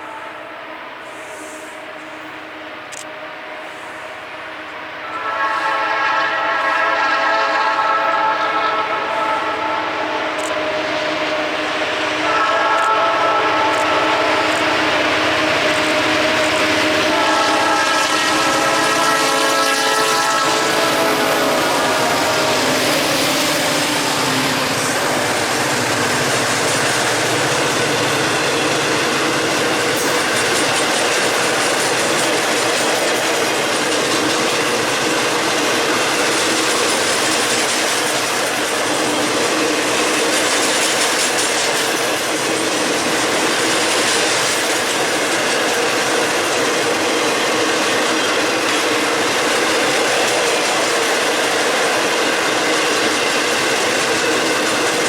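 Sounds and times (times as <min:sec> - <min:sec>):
train cars rattling: 0:00.0 - 0:55.0
train wheels rumbling on rail: 0:00.0 - 0:55.0.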